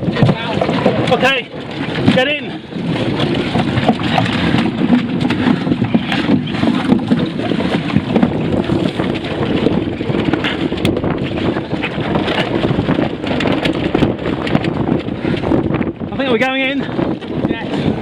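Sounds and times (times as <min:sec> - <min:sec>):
water splashing against hull: 0:00.0 - 0:18.0
wind buffeting microphone: 0:00.0 - 0:18.0.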